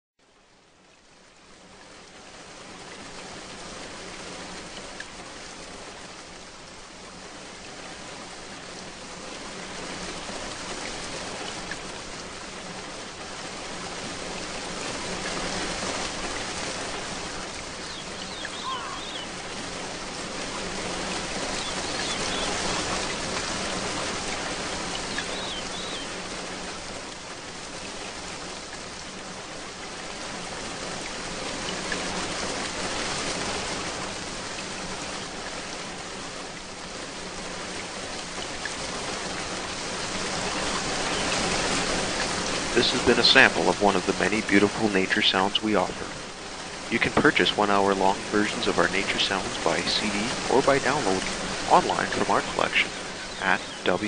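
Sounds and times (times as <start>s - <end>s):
torrential rain pouring: 0.2s - 54.0s.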